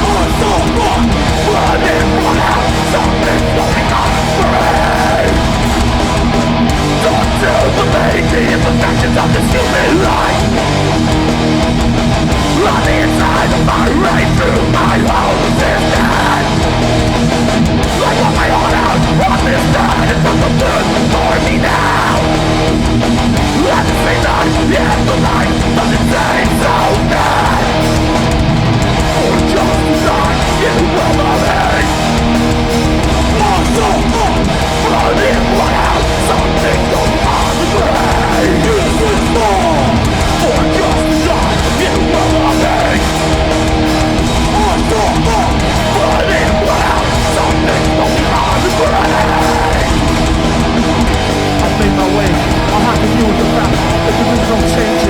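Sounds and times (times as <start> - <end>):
metal band playing: 0.0 - 55.0.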